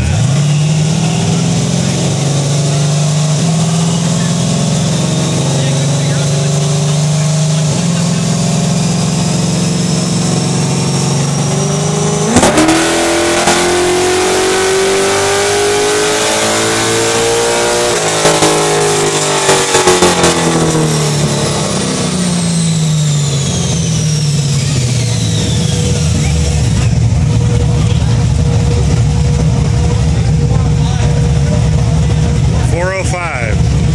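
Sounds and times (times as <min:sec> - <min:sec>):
car engine revving on dyno: 0:00.0 - 0:33.9
high whine: 0:00.0 - 0:33.9.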